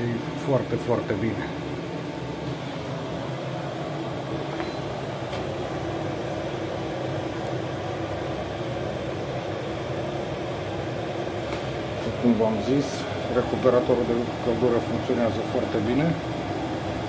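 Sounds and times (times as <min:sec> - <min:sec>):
air heater blower humming: 0:00.0 - 0:17.0.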